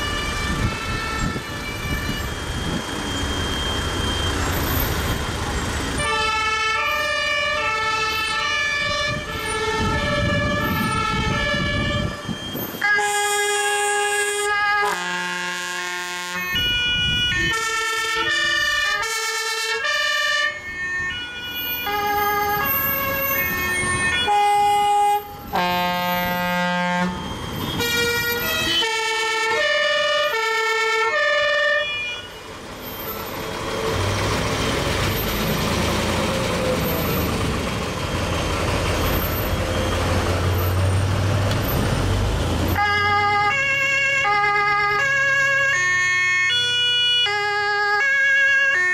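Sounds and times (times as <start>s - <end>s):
truck engine passing: 0.0s - 47.6s
road and tyre noise: 0.0s - 48.9s
two-tone fire engine sirens: 0.0s - 48.9s.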